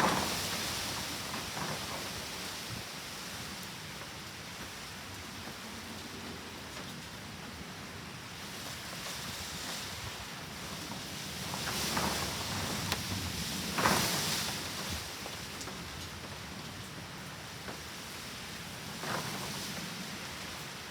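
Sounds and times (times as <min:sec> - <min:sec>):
rain and wind rushing: 0:00.0 - 0:20.9.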